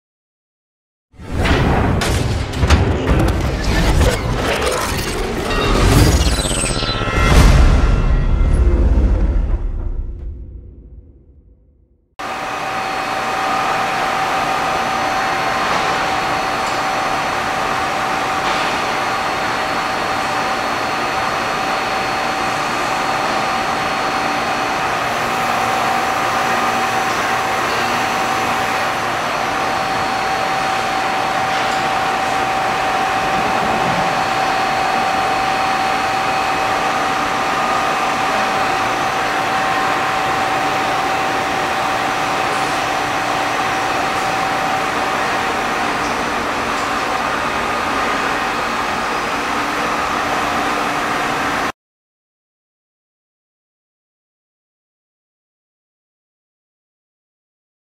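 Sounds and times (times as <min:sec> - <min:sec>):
machine whirring with whine: 0:01.2 - 0:11.5, 0:12.2 - 0:51.8.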